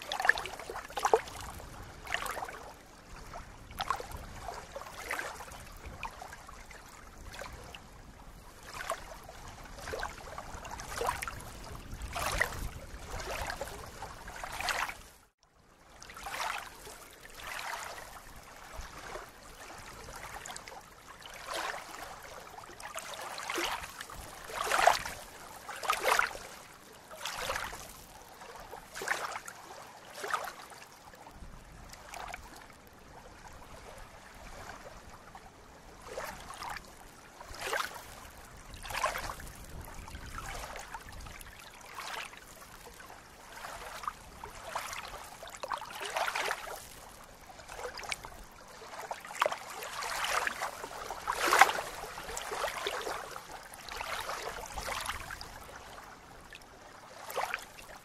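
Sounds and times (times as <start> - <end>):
small waves lapping: 0.0 - 58.0.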